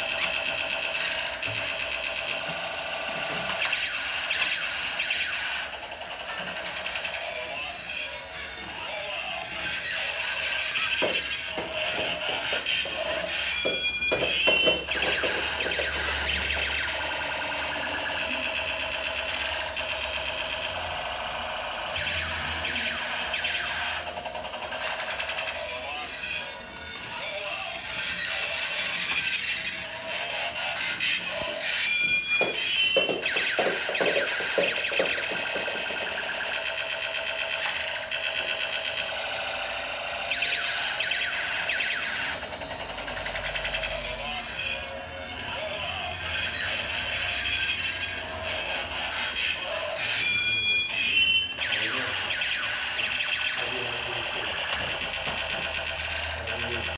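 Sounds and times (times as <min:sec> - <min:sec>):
warbling siren-like toy sweeps: 0:00.0 - 0:56.9.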